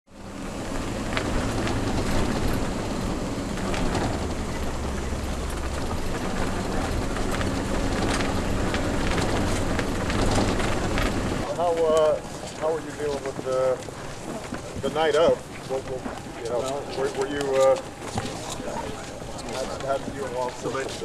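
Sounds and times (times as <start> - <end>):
road and engine rumble in cabin: 0.1 - 21.0.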